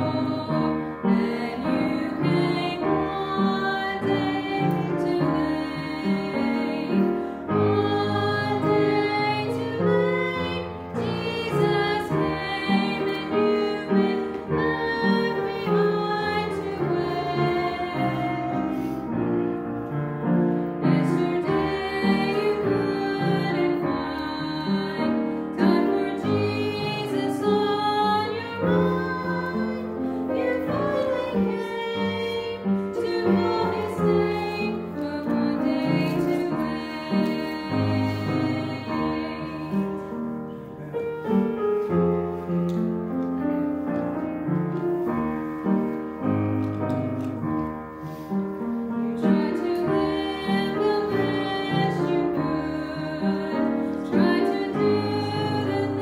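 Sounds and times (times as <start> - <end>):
women singing gospel duet: 0.0 - 19.0, 20.8 - 40.1, 49.2 - 56.0
instrumental accompaniment: 0.0 - 56.0.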